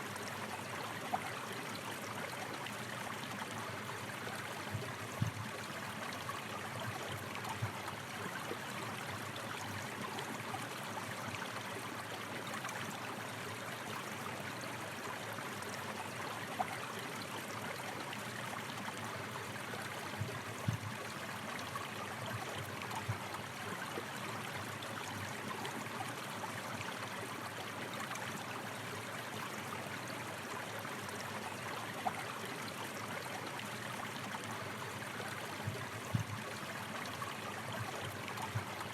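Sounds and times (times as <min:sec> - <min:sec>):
water gurgles and splashes: 0:00.1 - 0:38.9.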